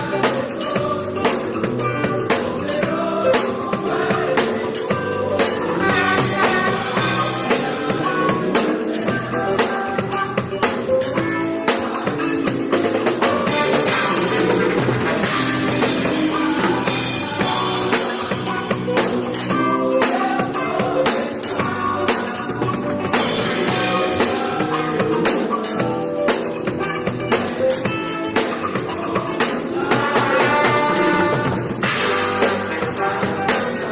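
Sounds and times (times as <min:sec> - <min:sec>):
drum kit steady beat: 0:00.0 - 0:33.9
praise band playing live: 0:00.0 - 0:33.9.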